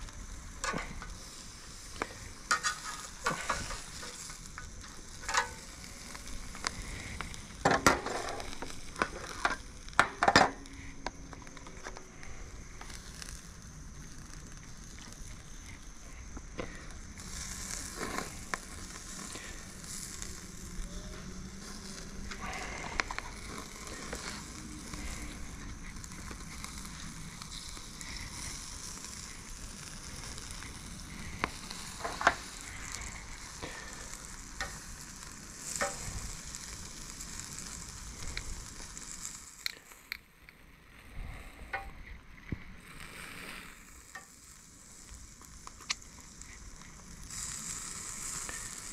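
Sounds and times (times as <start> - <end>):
crabs sizzling on a grill: 0.0 - 48.9.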